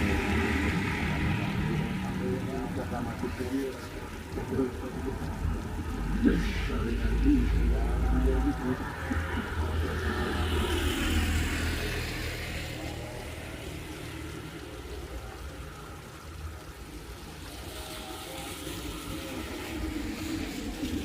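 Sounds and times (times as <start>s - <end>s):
low rumble: 0.0s - 21.0s
steady rain: 0.0s - 21.0s.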